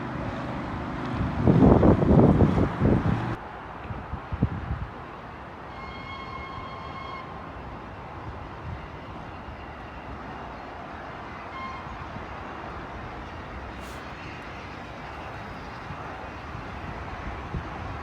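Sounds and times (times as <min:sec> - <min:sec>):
train rumbling by: 0:00.0 - 0:18.0.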